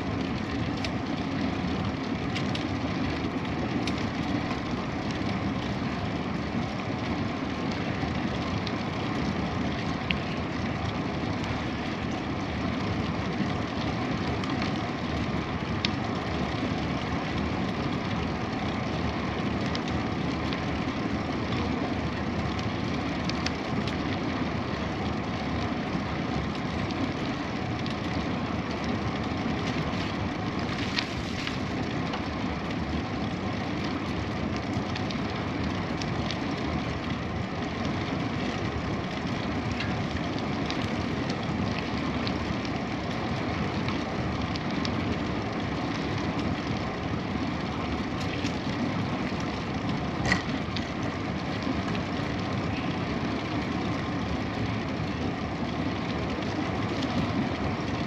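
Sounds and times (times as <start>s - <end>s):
bicycle tyres on road: 0.0s - 58.0s.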